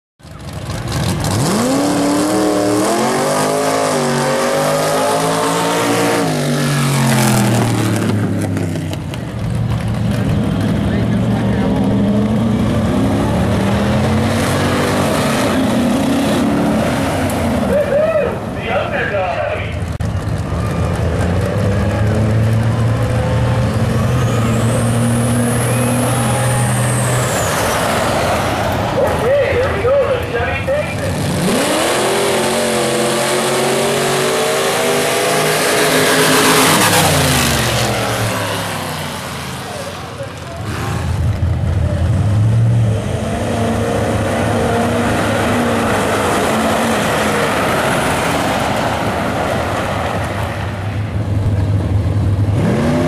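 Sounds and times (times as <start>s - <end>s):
truck engine revving: 0.2s - 53.0s.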